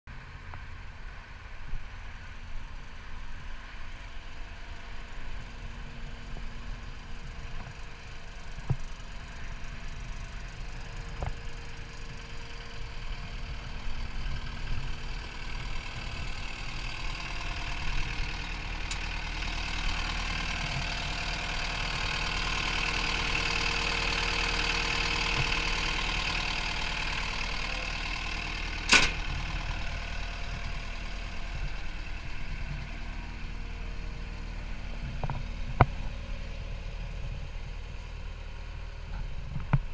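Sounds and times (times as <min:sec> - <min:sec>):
diesel engine idling: 0:00.2 - 0:39.9.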